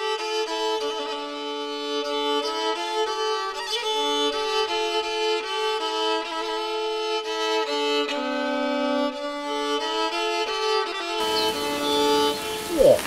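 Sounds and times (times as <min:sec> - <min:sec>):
violin playing a melody: 0:00.0 - 0:12.7.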